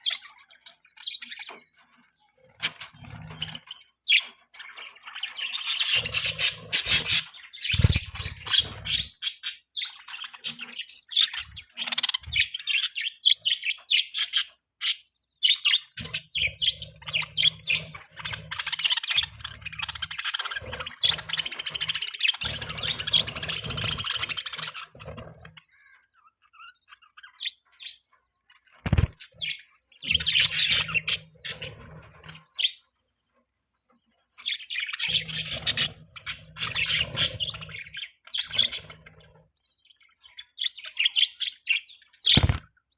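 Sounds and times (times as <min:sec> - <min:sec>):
budgerigars chirping: 0:02.5 - 0:32.9, 0:34.4 - 0:42.6.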